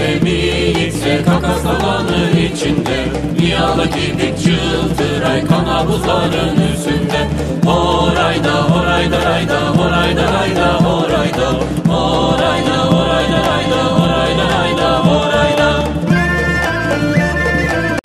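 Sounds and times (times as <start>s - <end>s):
steady low beat: 0.0s - 17.1s
voices singing: 0.0s - 18.0s.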